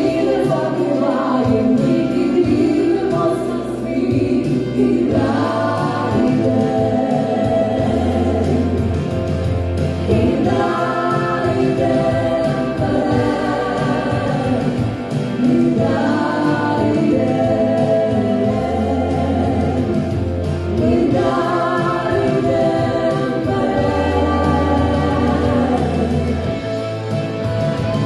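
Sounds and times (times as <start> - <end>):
choir singing held chords: 0.0 - 27.0.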